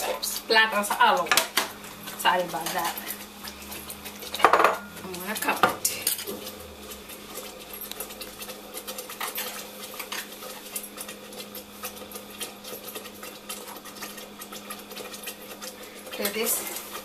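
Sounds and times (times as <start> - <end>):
sauce bubbling and popping: 1.2 - 17.0.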